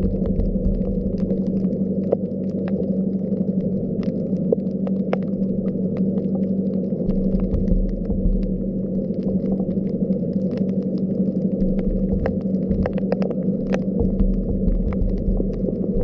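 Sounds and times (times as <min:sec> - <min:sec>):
underwater low hum and rumble: 0:00.0 - 0:16.0.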